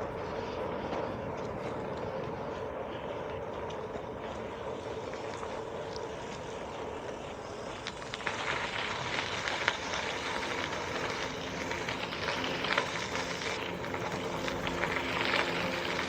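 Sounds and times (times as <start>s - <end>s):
bicycle tyres rolling on dirt: 0.0s - 16.0s.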